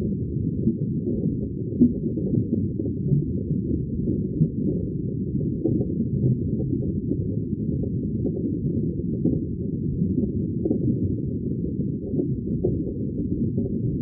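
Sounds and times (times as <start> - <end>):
low underwater bubbling rumble: 0.0 - 14.0.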